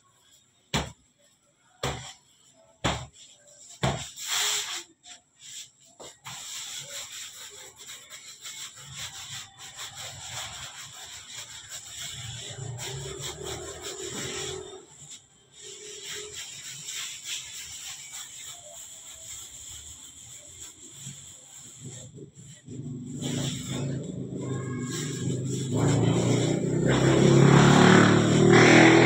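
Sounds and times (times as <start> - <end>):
hands rolling dough on table: 0.7 - 29.0.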